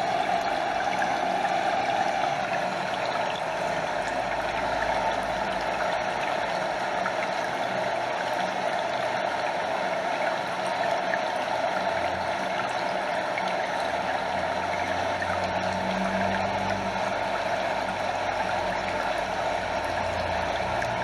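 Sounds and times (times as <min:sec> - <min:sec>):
small waterfall rushing: 0:00.0 - 0:21.0
stream water lapping and trickling: 0:00.0 - 0:21.0.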